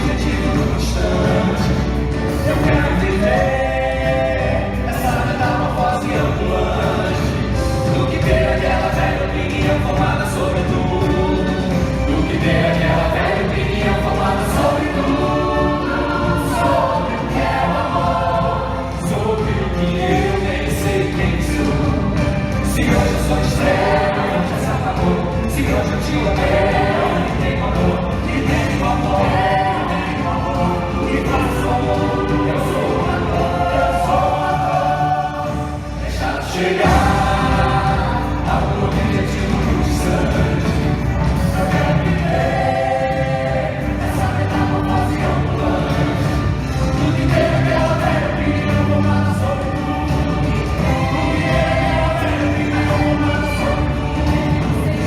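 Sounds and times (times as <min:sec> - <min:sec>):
choir singing long notes: 0:00.0 - 0:55.0
musical accompaniment: 0:00.0 - 0:55.0.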